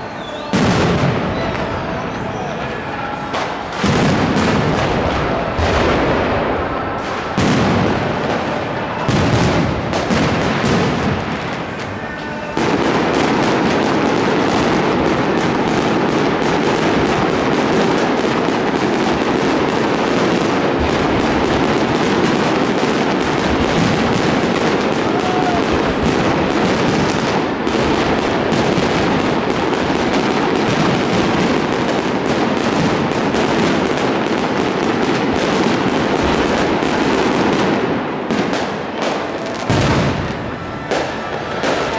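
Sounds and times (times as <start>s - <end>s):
fireworks crackling: 0.0s - 41.9s.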